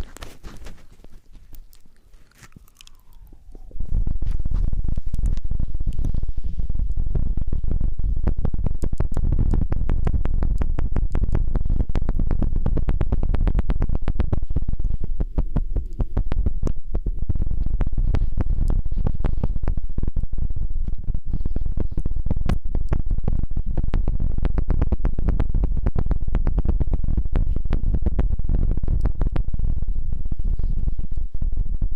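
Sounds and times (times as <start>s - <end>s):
rubbing on microphone: 0.0s - 23.8s, 25.2s - 31.8s
low rumble: 2.5s - 31.9s.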